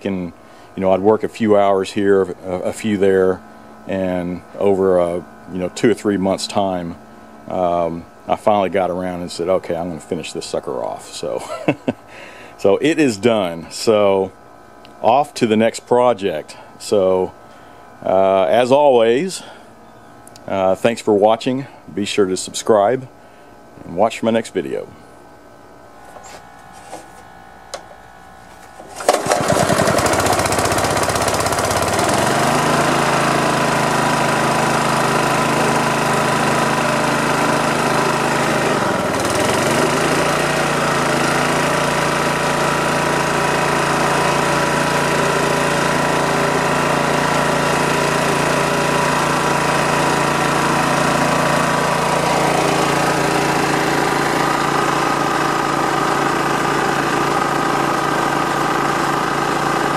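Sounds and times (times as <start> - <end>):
air compressor engine running: 0.0 - 14.8, 24.8 - 59.9.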